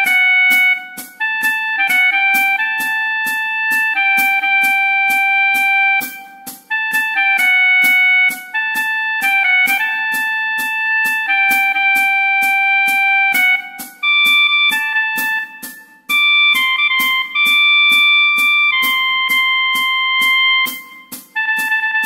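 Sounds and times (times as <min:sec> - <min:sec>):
clarinet slow melody: 0:00.0 - 0:22.0.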